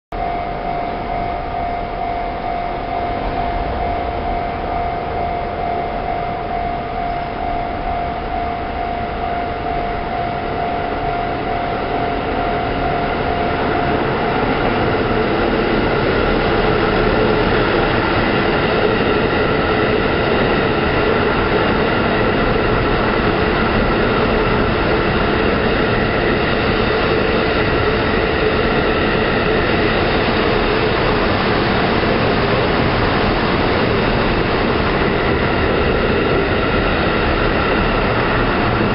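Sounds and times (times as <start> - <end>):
diesel train passing: 0.1 - 38.9
level crossing alarm ringing: 0.1 - 38.9.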